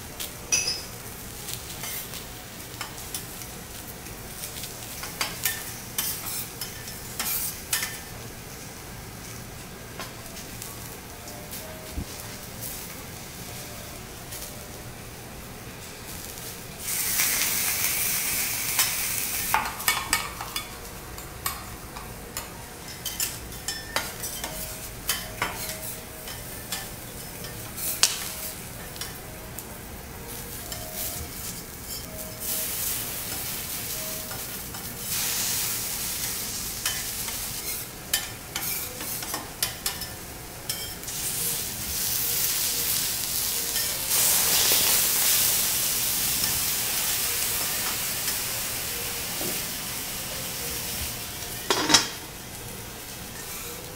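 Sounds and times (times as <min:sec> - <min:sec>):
food sizzling on a griddle: 0:00.0 - 0:53.9.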